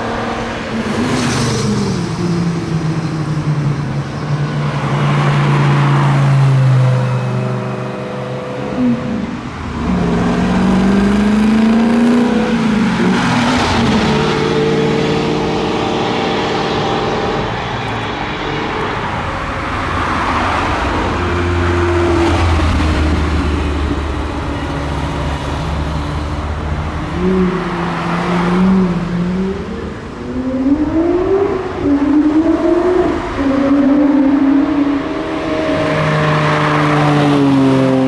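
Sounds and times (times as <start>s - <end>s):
car accelerating: 0.0s - 38.0s
sports car engines at low revs: 7.2s - 38.0s.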